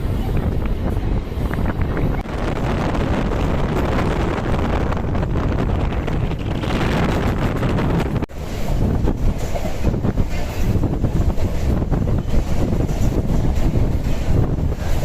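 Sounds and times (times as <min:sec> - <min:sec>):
electric train rumbling: 0:00.0 - 0:15.0
wind buffeting microphone: 0:00.0 - 0:15.0.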